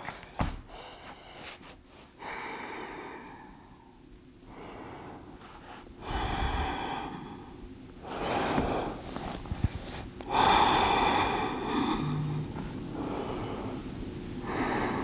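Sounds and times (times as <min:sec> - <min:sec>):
person breathing deeply: 0:00.6 - 0:15.0.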